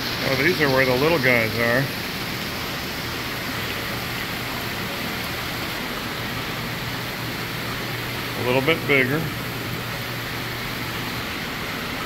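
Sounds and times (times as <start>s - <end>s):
steady low hum: 0.0s - 12.0s
water spraying into tanks: 0.0s - 12.0s.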